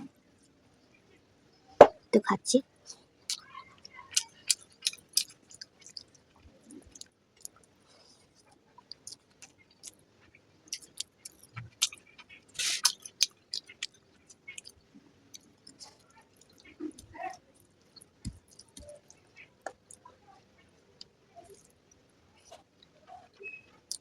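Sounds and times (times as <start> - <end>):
close chewing with mouth smacks: 3.3 - 20.4, 21.0 - 24.0.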